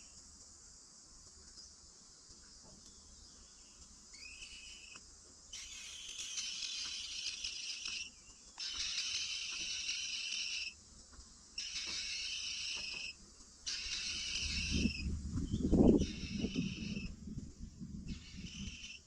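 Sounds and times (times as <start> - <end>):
high insect hiss: 0.0 - 19.0
insect buzzing: 0.0 - 19.0.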